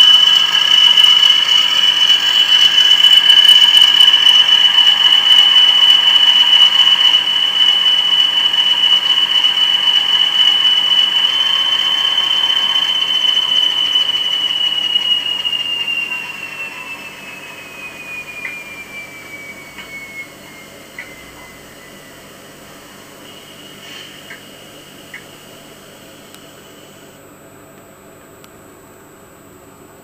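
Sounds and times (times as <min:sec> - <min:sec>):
model locomotive diesel engine sound: 0:00.0 - 0:27.2.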